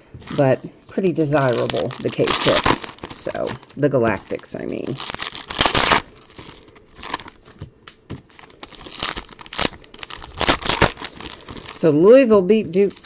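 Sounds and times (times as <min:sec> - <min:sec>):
wrappers crinkling and tearing: 0:00.2 - 0:07.6, 0:08.3 - 0:11.9, 0:12.8 - 0:13.0.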